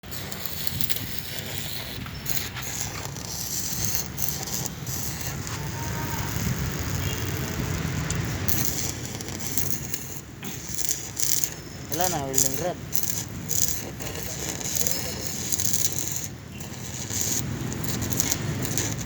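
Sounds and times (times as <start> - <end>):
arc welding crackling and buzzing: 0.0 - 19.0.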